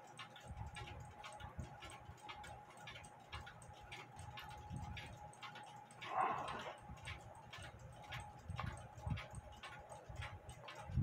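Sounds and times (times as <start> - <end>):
mechanical clock ticking: 0.0 - 11.0
soft knocks of clock movement: 0.0 - 11.0.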